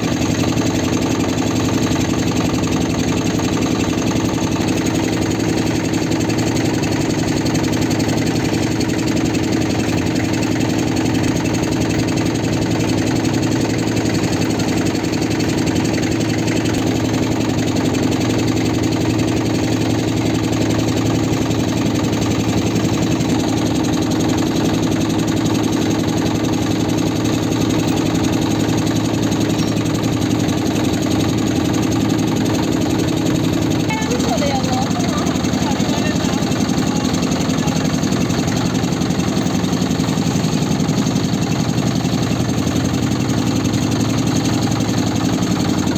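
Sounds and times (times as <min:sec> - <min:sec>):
motorboat engine droning: 0:00.0 - 0:45.9.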